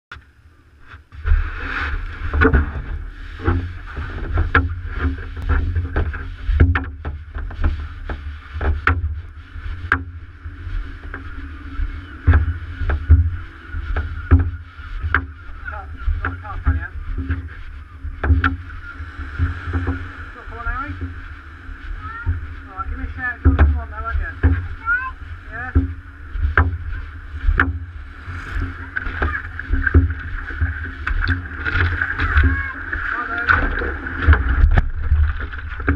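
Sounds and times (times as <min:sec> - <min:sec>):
wind rumble on microphone: 0:00.1 - 0:35.9
water splashing against a board: 0:00.2 - 0:35.9.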